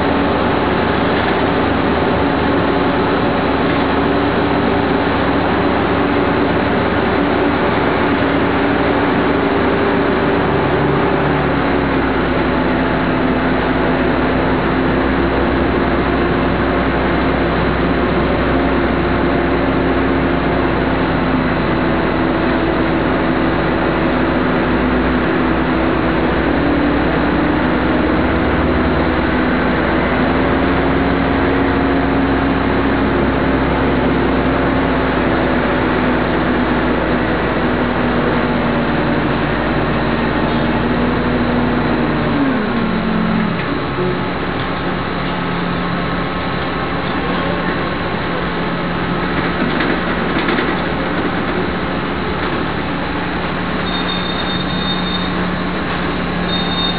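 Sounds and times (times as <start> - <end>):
bus engine running: 0.0 - 56.9.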